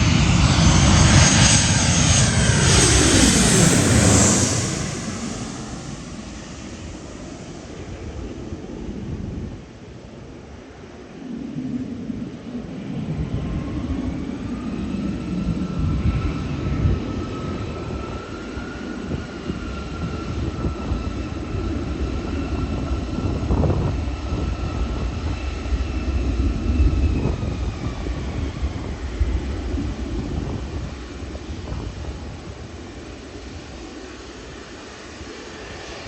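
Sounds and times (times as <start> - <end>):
jet engine rumble: 0.0 - 36.0
thin jet engine whine: 0.0 - 36.0.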